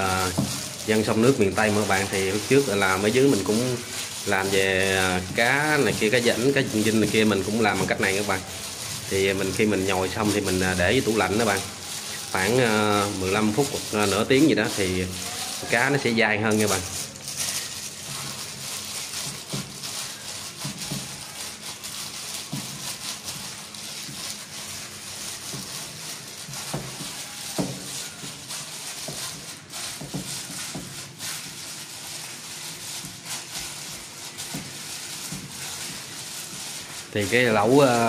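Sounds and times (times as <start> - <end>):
plastic glove rustling: 0.0 - 38.0
wet squelches of kneading: 0.0 - 38.0.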